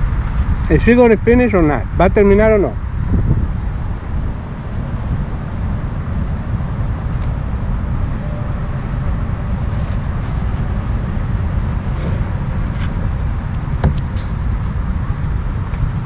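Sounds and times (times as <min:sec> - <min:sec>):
low outdoor background rumble: 0:00.0 - 0:16.0.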